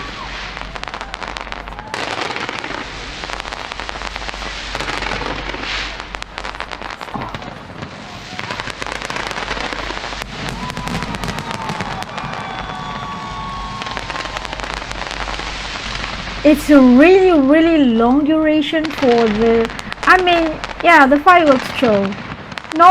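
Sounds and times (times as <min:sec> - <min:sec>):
fireworks crackling and popping: 0:00.0 - 0:22.9.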